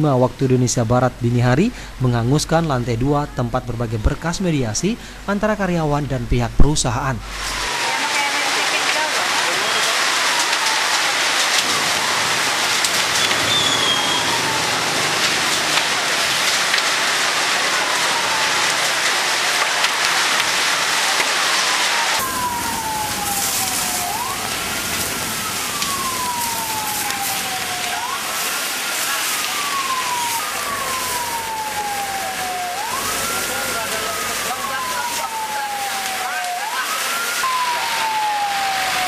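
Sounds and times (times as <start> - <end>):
rushing hiss with crackles: 0.0 - 39.0
emergency siren wailing: 7.2 - 39.0.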